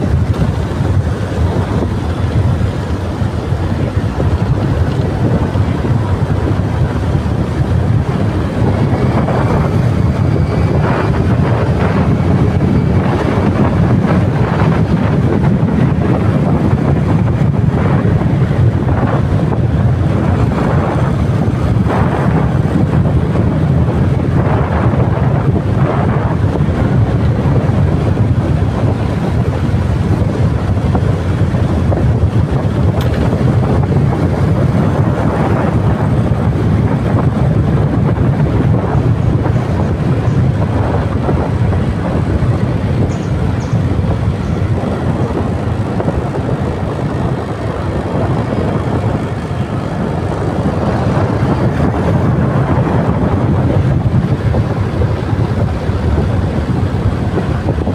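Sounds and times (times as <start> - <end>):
motorcycle running: 0.0 - 57.9
wind buffeting microphone: 0.0 - 57.9.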